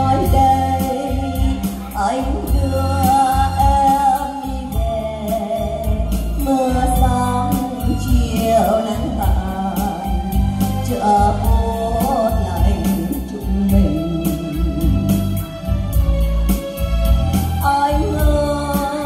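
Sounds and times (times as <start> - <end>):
woman singing a ballad: 0.0 - 16.0, 17.4 - 19.0
instrumental accompaniment: 0.0 - 19.0.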